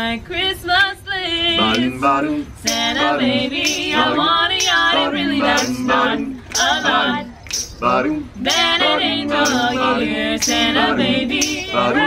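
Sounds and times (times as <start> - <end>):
group singing a cappella: 0.0 - 12.0.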